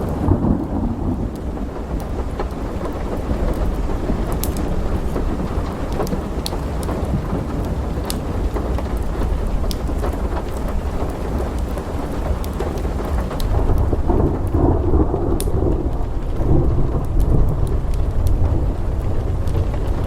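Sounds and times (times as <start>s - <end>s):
steady rain: 0.0s - 20.0s
thunder rumbling: 0.0s - 20.0s
wood fire crackling: 0.0s - 20.0s.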